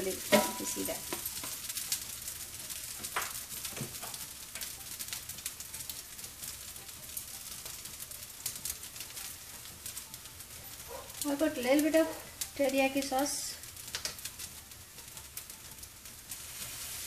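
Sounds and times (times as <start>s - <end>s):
rice sizzling in a skillet: 0.0s - 17.0s.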